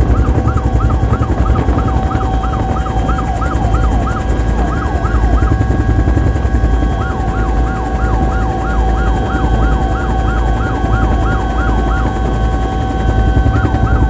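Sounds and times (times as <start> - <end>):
helicopter rumble and turbine whine: 0.0 - 14.0.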